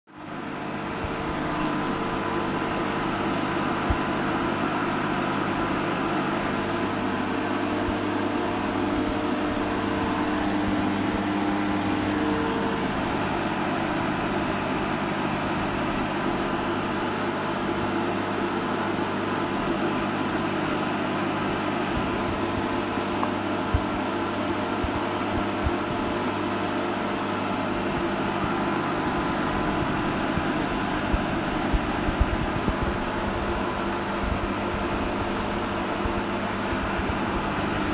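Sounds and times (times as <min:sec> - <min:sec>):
machine compressor and fan humming: 0:00.1 - 0:37.9.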